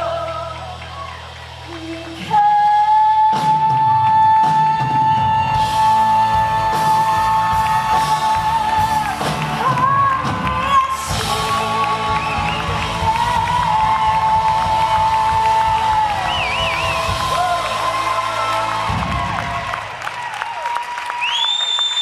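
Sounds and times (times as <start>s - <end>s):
woman singing: 0.0s - 18.8s
band playing: 0.0s - 20.5s.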